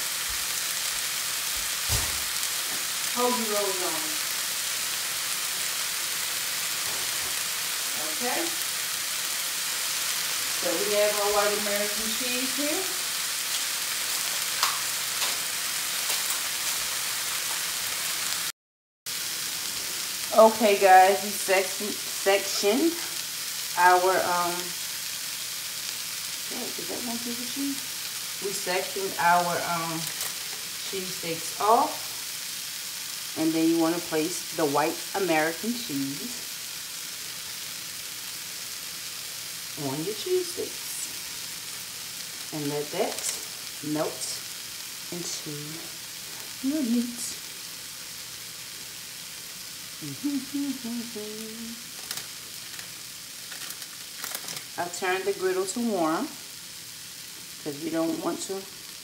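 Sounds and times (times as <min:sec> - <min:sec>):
meat and onions sizzling on griddle: 0:00.0 - 0:18.5, 0:19.1 - 0:59.0.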